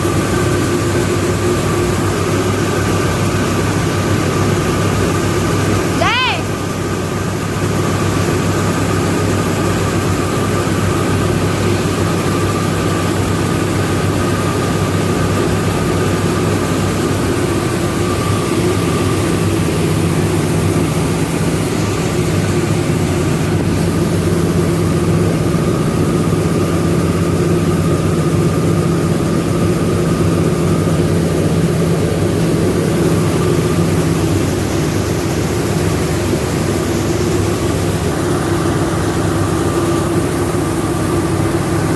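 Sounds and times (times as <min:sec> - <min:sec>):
milling machinery drone: 0:00.0 - 0:41.9.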